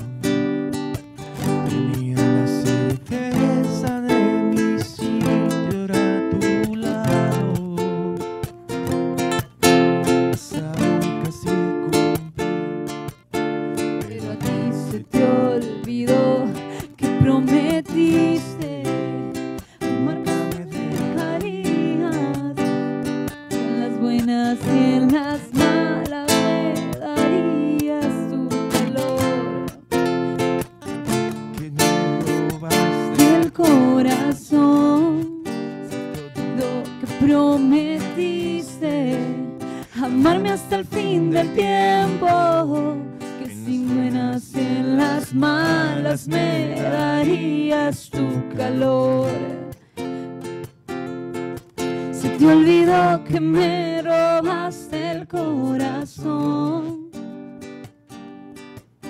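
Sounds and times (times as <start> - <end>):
acoustic guitar strumming: 0.0 - 59.0
person singing: 1.3 - 8.5, 9.8 - 12.4, 14.0 - 22.9, 23.5 - 30.0, 31.2 - 49.8, 51.9 - 57.3.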